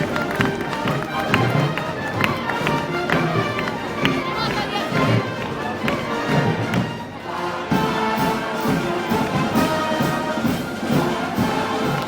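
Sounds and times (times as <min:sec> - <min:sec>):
brass and wind band playing: 0:00.0 - 0:12.0
percussion strokes: 0:00.0 - 0:12.0.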